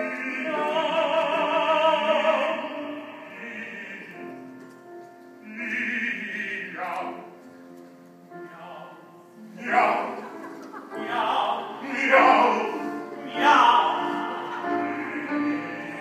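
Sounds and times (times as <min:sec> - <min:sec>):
man singing opera with vibrato: 0:00.0 - 0:04.5, 0:05.4 - 0:07.3, 0:08.4 - 0:10.3, 0:10.9 - 0:16.0
piano accompaniment: 0:00.0 - 0:16.0.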